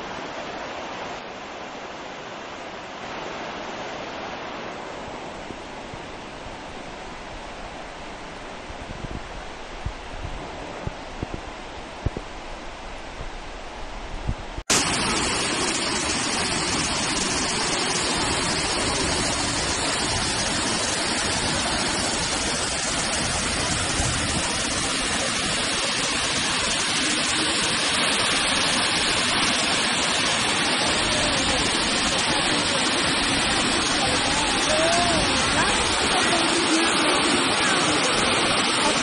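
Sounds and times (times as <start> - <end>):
waterfall rushing over rocks: 0.0 - 11.4, 14.6 - 39.0.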